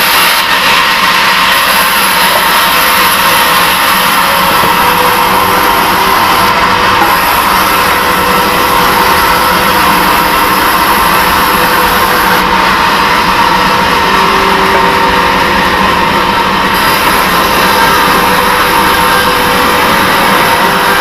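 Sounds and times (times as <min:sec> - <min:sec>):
band sawmill sawing a log: 0:00.0 - 0:21.0
thin high whine: 0:00.0 - 0:21.0.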